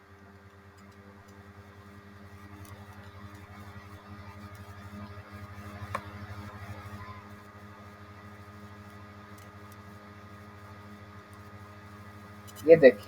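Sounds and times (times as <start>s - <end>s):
electrical hum with pulsing flutter: 0.0s - 13.0s.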